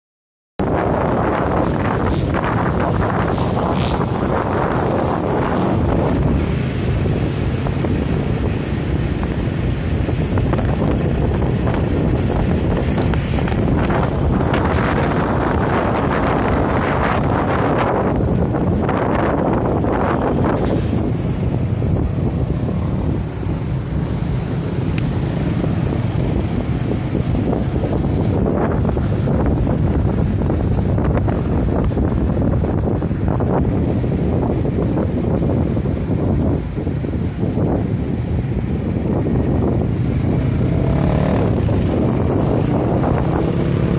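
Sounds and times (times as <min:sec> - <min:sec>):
motorcycle engines: 0:00.6 - 0:43.9
road noise: 0:00.6 - 0:43.9
wind buffeting microphone: 0:00.6 - 0:43.9.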